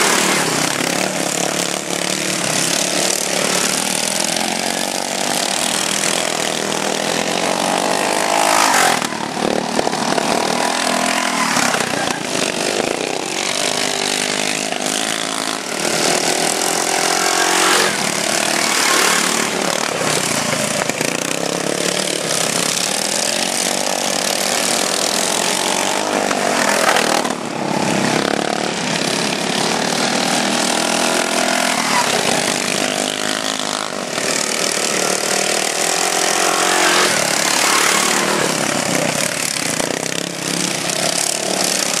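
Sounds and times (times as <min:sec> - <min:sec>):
lawn mower engines revving: 0:00.0 - 0:42.0.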